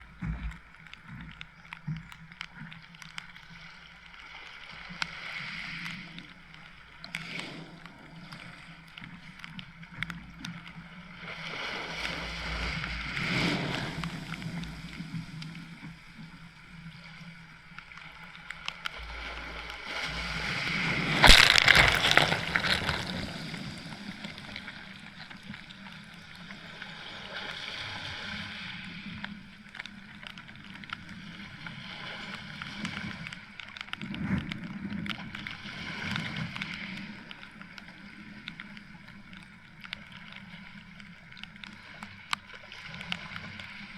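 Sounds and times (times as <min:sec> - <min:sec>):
raindrops hitting camera: 0:00.0 - 0:43.9
small waves washing on beach: 0:00.0 - 0:43.9.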